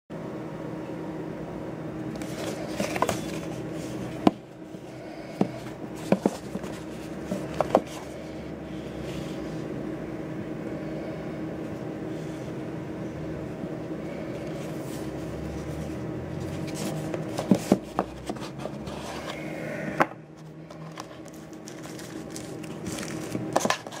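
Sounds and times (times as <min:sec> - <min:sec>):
low hum: 0:00.2 - 0:24.0.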